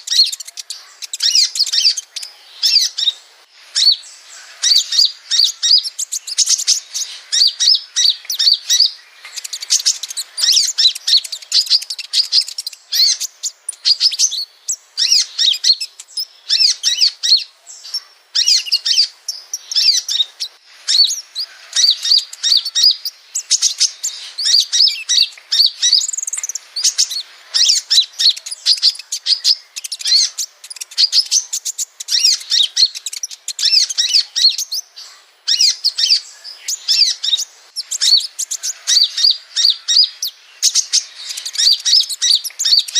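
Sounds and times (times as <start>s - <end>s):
small bird twittering song: 0.0s - 42.9s.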